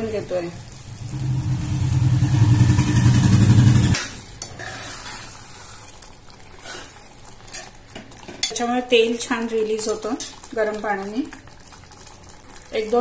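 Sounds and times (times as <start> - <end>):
water poured into pot: 0.4 - 13.0.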